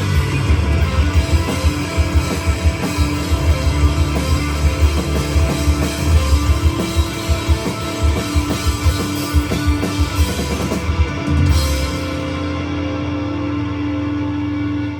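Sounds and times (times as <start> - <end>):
live rock band playing: 0.0 - 14.9
held guitar chord ringing: 0.1 - 14.9.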